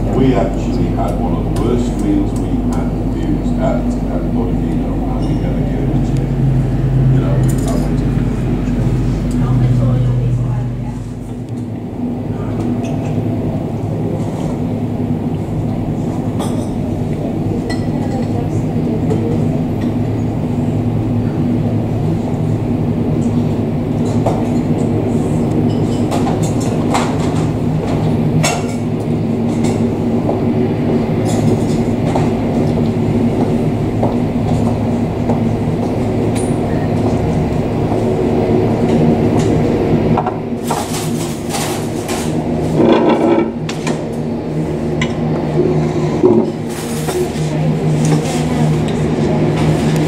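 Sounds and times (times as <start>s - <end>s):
turboprop aircraft engines droning: 0.0s - 50.0s.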